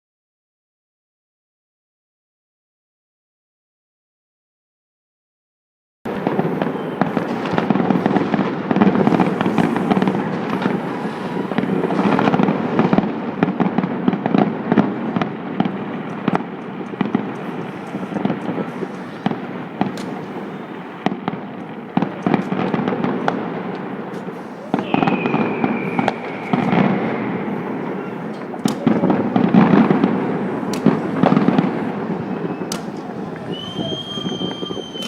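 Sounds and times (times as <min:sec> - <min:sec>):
fireworks bangs: 0:06.1 - 0:35.0
fireworks crackling: 0:06.1 - 0:35.0.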